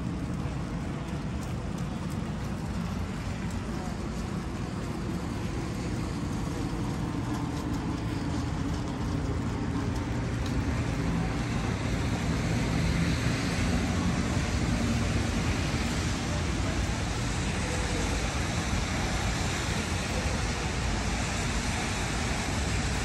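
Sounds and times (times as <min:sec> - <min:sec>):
road traffic rumble: 0:00.0 - 0:23.0
tyres hissing on wet pavement: 0:00.0 - 0:23.0.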